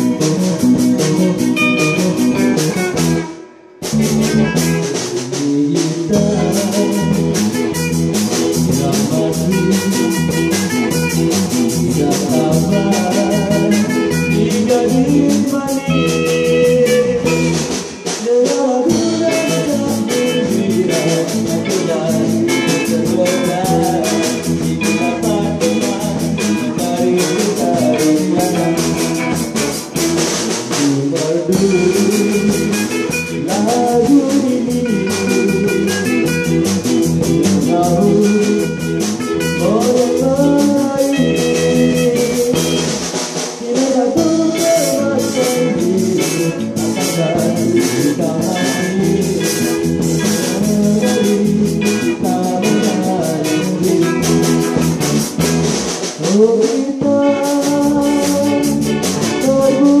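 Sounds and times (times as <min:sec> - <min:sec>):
man singing into microphone: 0:00.0 - 0:03.3, 0:04.6 - 0:30.0, 0:30.6 - 0:55.2, 0:56.1 - 1:00.0
rock band playing: 0:00.0 - 1:00.0.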